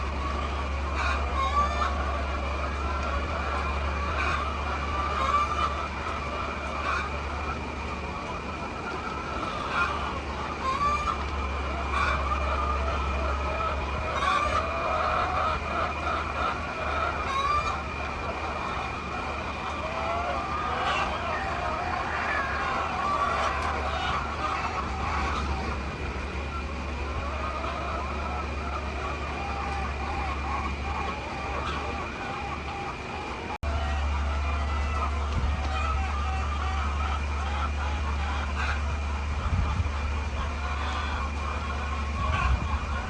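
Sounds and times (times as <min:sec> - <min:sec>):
chickens clucking: 0:00.0 - 0:43.0
constant high-pitched whine: 0:00.0 - 0:43.0
steady low hum: 0:00.0 - 0:43.0.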